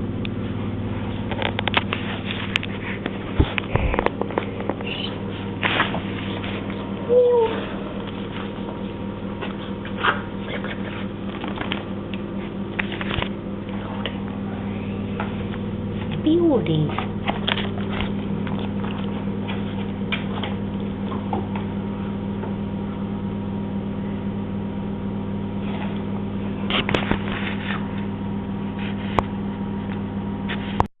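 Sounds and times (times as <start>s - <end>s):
low electrical hum: 0.0s - 30.9s.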